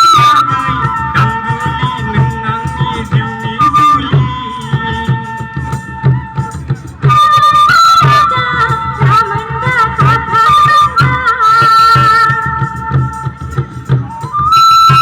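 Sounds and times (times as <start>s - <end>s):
folk music with steady beat: 0.0s - 15.0s.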